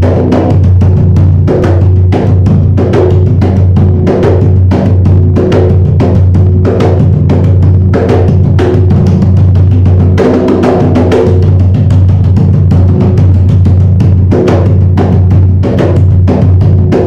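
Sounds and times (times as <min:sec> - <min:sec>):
hand drum played fast: 0:00.0 - 0:17.0.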